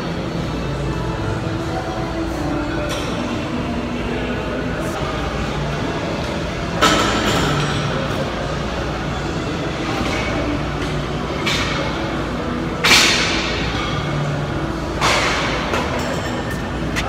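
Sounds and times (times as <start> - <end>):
gym background hum: 0.0 - 17.0.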